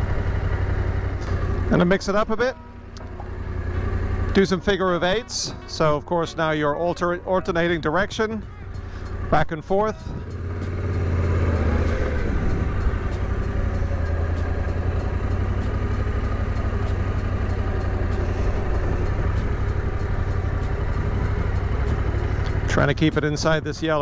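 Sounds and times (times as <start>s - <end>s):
motorcycle engine at low revs: 0.0s - 24.0s.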